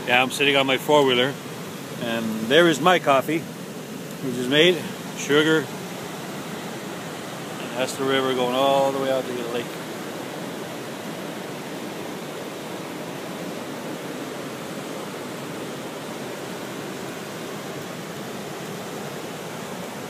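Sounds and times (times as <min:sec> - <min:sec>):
water rushing over rapids: 0:00.0 - 0:20.0.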